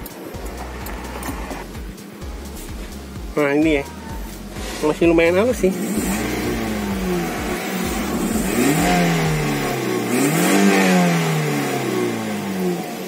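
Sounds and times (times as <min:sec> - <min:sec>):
car engine revving: 0:00.0 - 0:03.5, 0:04.3 - 0:13.0.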